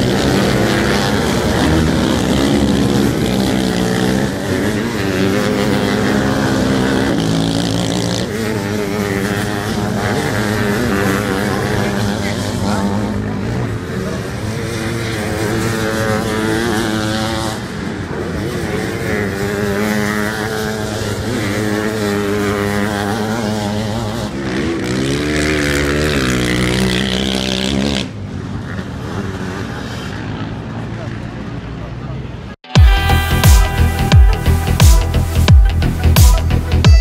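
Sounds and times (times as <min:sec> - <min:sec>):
motocross engines revving: 0:00.0 - 0:37.0.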